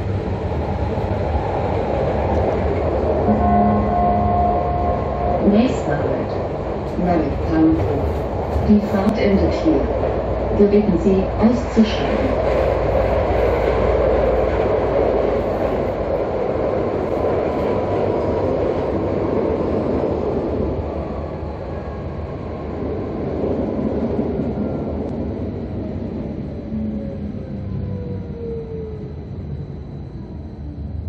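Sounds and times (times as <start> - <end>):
tram rumble and rolling noise: 0.0 - 31.0.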